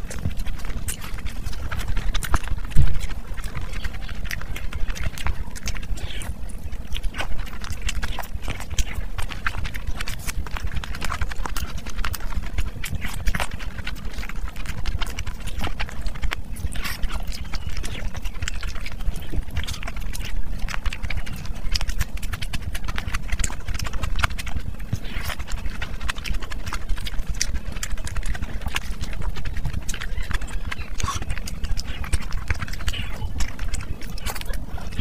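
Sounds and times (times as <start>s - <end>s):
fingers squishing rice: 0.0s - 35.0s
low hum: 0.0s - 35.0s
wet chewing and lip smacking: 0.0s - 35.0s.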